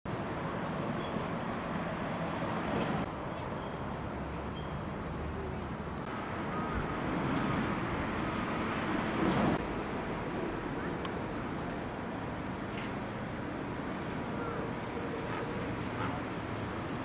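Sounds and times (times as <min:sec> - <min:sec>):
distant road traffic: 0:00.1 - 0:17.0.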